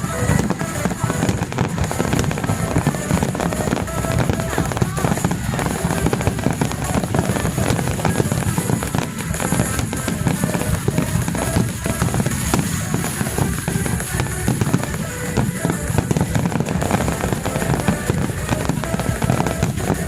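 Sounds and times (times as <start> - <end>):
fireworks bangs and crackles: 0.0 - 20.0
fireworks low booms: 0.0 - 20.0
loud music: 0.0 - 20.0.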